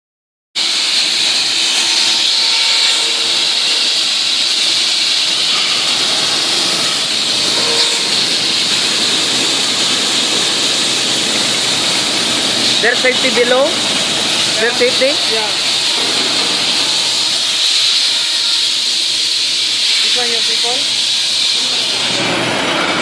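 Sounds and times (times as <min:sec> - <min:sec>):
concrete saw cutting concrete: 0:00.6 - 0:23.0.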